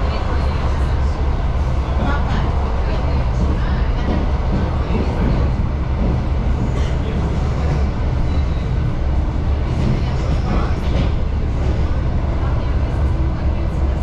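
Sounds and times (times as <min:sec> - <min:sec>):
train rumbling inside carriage: 0:00.0 - 0:14.0.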